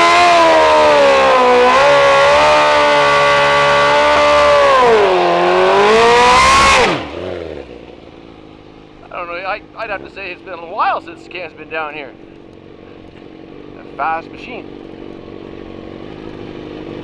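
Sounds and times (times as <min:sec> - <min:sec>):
racing car engine at high revs: 0:00.0 - 0:08.4, 0:09.7 - 0:17.0.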